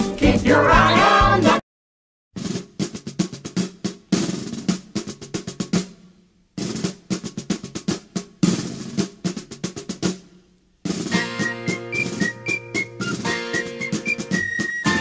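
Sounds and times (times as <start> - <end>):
marching snare drum rolls: 2.4 - 15.0.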